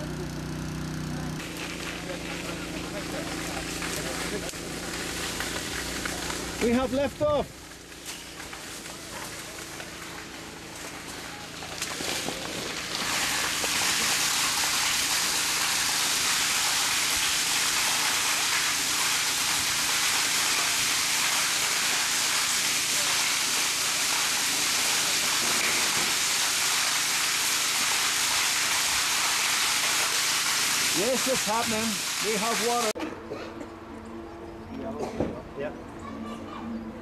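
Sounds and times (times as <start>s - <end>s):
water gushing from hose into tank: 0.0s - 8.0s, 8.6s - 33.0s.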